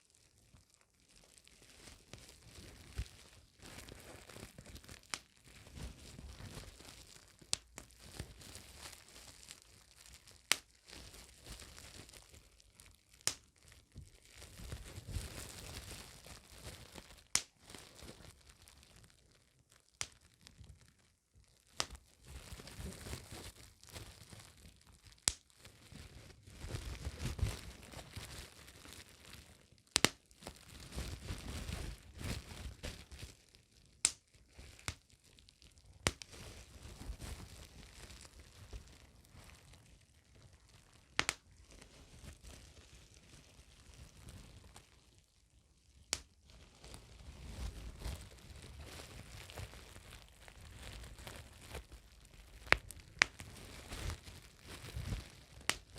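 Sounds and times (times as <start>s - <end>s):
bubble wrap crinkling: 0.0s - 55.9s
bubble wrap pops: 0.0s - 55.9s.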